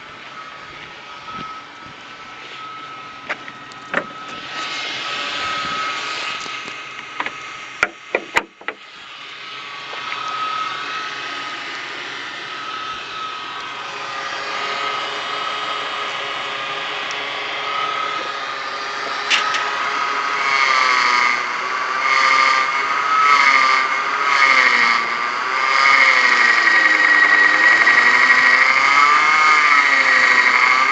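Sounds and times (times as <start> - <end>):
car engine running with whine: 0.0 - 30.9.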